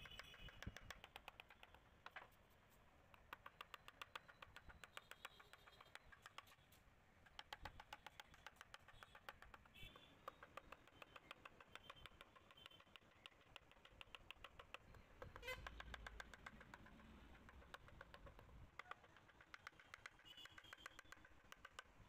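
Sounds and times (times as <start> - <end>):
hammer tapping on chisel: 0.0 - 2.3, 3.1 - 6.6, 7.2 - 22.0.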